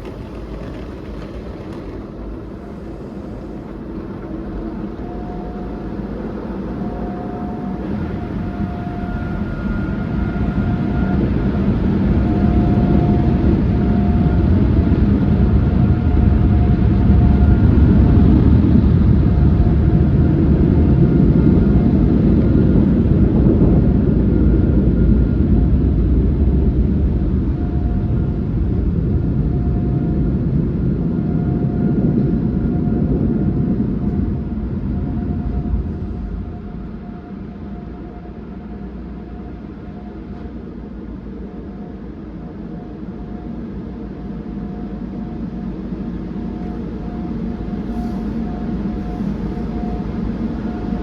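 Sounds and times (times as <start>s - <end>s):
car wash equipment roaring: 0.0s - 51.0s
faint whine: 0.0s - 51.0s.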